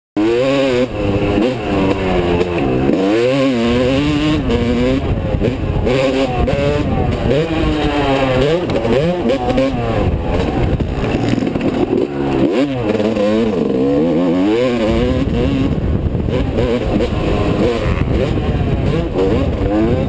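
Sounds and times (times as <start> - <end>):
motocross bike engine revving: 0.2 - 20.0.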